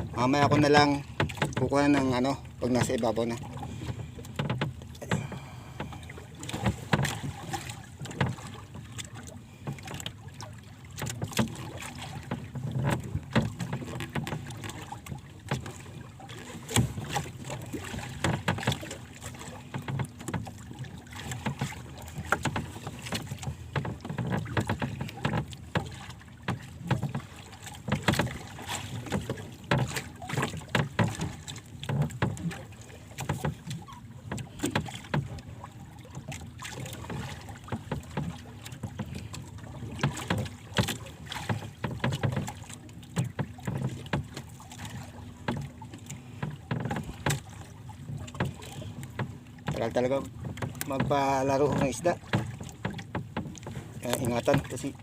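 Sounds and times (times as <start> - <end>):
choppy water splashing on hull: 0.0 - 55.0
knocks against hull: 0.0 - 55.0.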